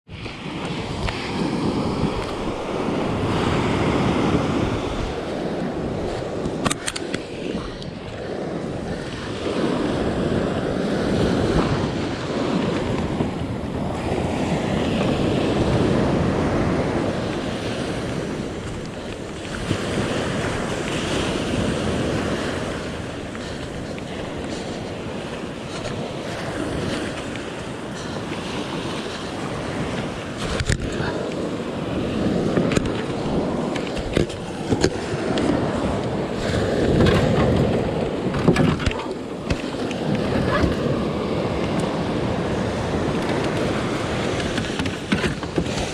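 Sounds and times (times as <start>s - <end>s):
wind on microphone: 0.1s - 45.9s.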